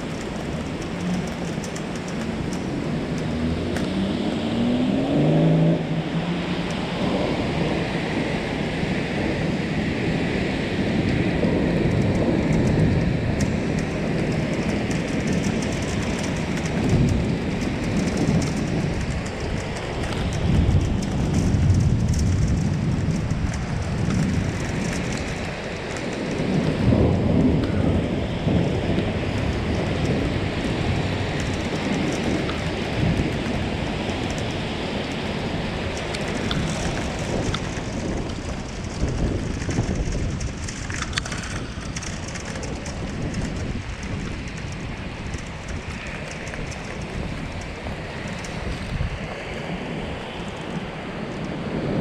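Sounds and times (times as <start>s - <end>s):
thunder rumbling: 0.0s - 52.0s.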